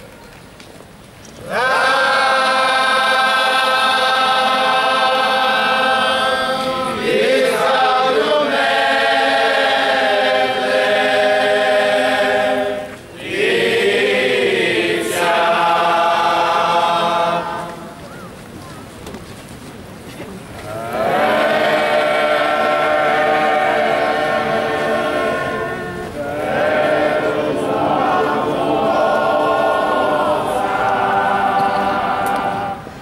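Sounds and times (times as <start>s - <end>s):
chorus singing a slow chant: 1.4s - 18.2s, 20.7s - 33.0s.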